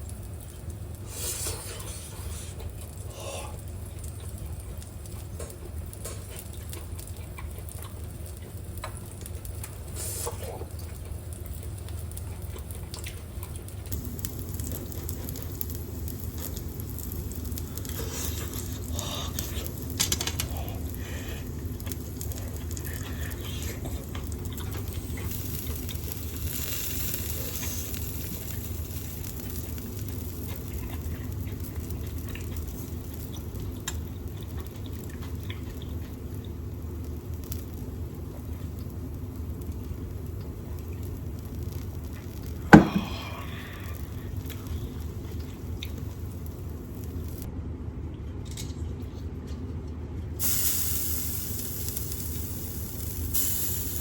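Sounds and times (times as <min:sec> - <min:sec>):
skewers sizzling on grill: 0:00.0 - 0:47.5, 0:50.4 - 0:54.0
range hood fan hum: 0:00.0 - 0:54.0.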